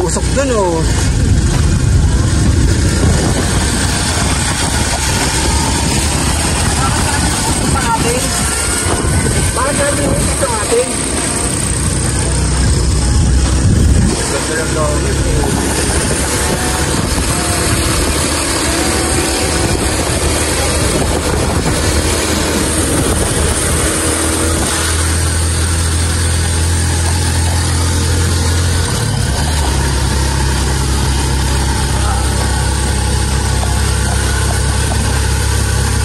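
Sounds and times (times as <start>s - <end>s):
vehicle engine humming: 0.0s - 36.0s
wind and road noise: 0.0s - 36.0s.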